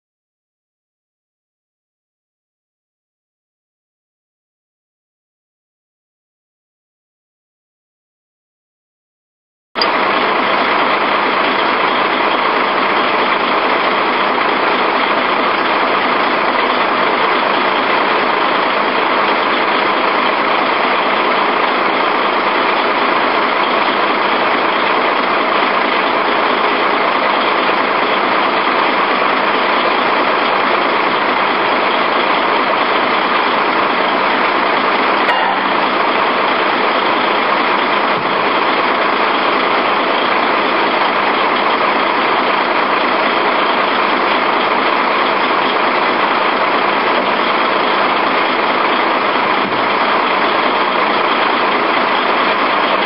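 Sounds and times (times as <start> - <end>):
diesel engine running: 9.8 - 53.0.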